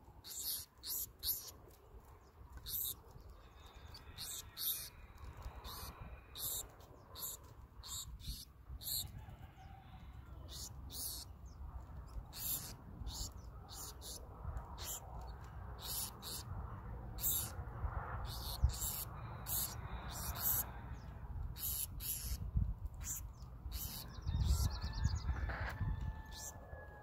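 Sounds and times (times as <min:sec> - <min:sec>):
sparrows chip calls: 0:00.2 - 0:09.2, 0:10.4 - 0:16.5, 0:17.1 - 0:17.6, 0:18.2 - 0:26.6
faint low rumble: 0:01.5 - 0:26.7.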